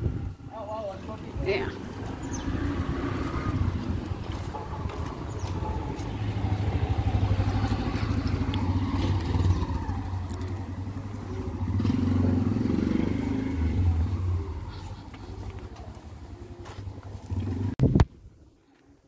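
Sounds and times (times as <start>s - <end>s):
vehicle engine running: 1.7s - 17.8s.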